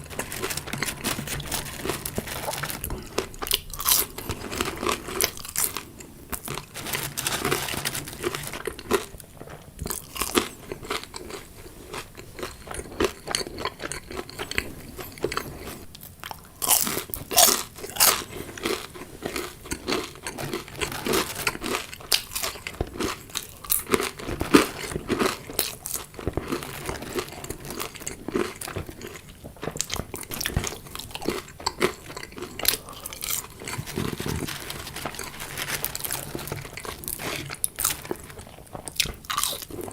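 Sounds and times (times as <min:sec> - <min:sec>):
chewing crunchy fried food: 0:00.0 - 0:39.9.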